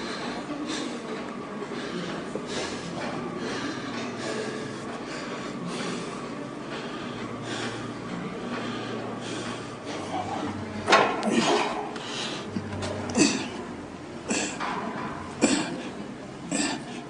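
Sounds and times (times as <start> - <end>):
heavy rhythmic breathing: 0.0 - 17.0.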